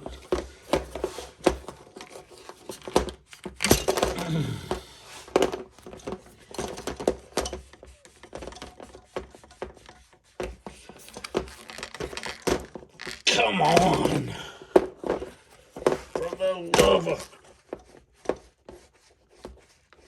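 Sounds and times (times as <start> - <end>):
tools clicking and scraping: 0.2 - 18.0.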